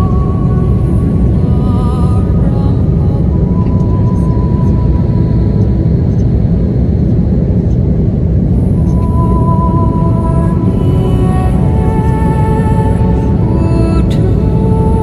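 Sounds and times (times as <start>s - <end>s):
airliner cabin engine and airflow rush: 0.0s - 15.0s.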